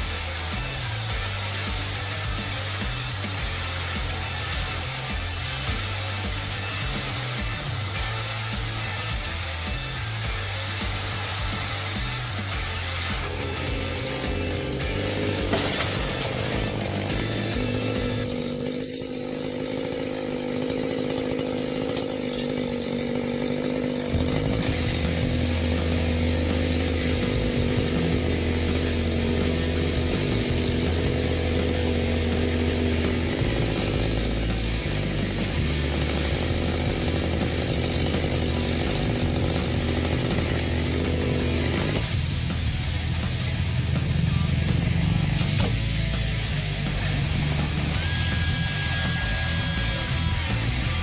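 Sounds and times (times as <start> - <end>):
chainsaw engine running: 0.0 - 51.0.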